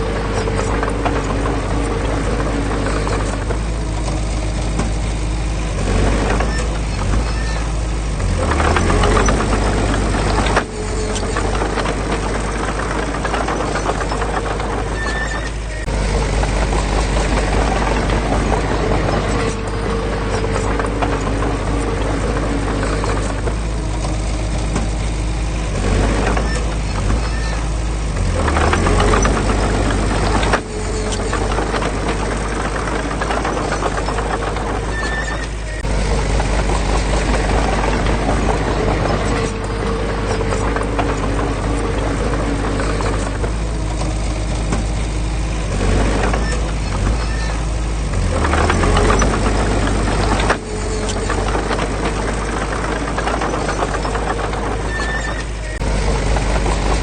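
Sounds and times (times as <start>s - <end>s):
clattering and rattling: 0.0s - 57.0s
diesel construction machine running: 0.0s - 57.0s.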